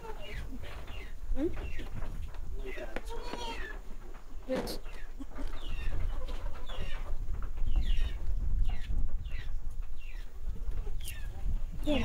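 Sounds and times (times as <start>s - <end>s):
birds chirping: 0.1s - 3.8s, 4.4s - 10.4s, 11.0s - 12.0s.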